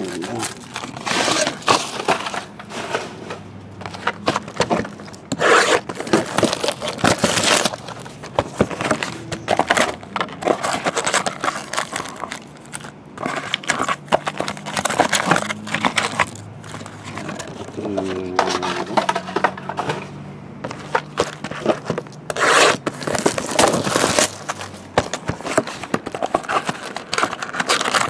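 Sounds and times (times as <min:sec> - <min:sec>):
plastic wrap crinkling: 0:00.0 - 0:02.7, 0:03.9 - 0:19.0, 0:20.8 - 0:28.0
cardboard boxes rustling and scraping: 0:00.0 - 0:28.0.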